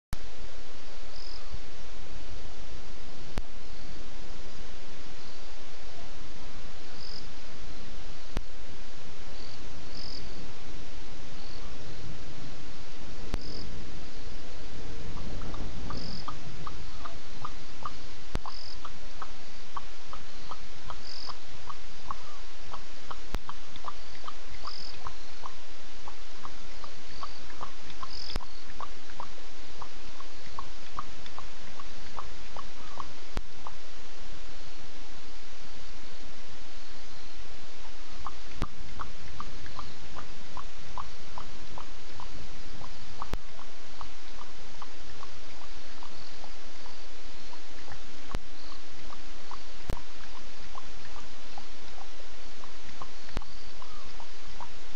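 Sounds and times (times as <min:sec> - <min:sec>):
night insects chirping: 0:00.2 - 0:54.9
steady hiss: 0:00.2 - 0:54.9.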